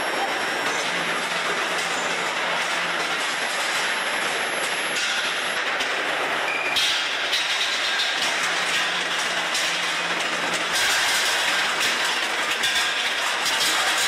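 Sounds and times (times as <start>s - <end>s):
rolling mill machinery clattering: 0.0s - 14.0s.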